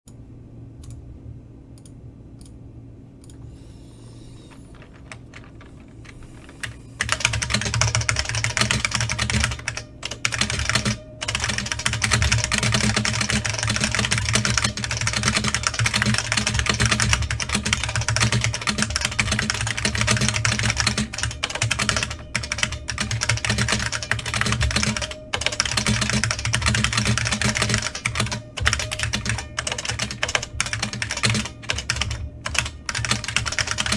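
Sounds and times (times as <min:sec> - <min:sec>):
faint low hum: 0:00.1 - 0:33.9
mechanical keyboard typing: 0:04.2 - 0:33.9.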